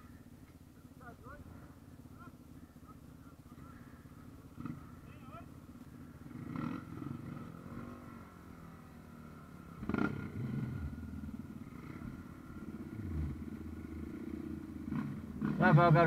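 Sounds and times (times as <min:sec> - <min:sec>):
dirt bike engines idling and revving: 0:00.0 - 0:16.0.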